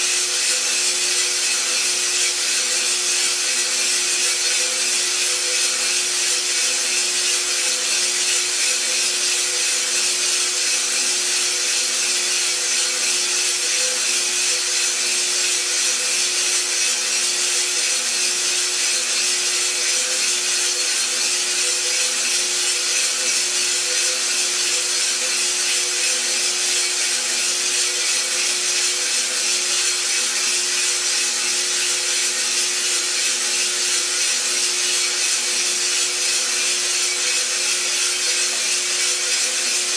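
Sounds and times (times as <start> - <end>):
coffee beans tumbling in drum: 0.0 - 39.9
motor and fan hum: 0.0 - 39.9.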